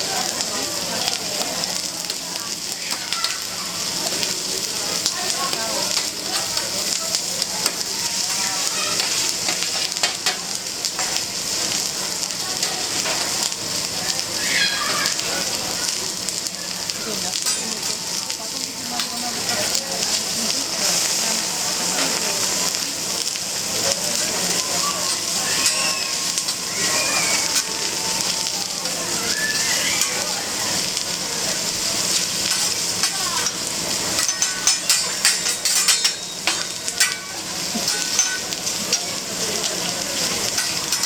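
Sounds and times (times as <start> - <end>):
food sizzling on a griddle: 0.0 - 41.0.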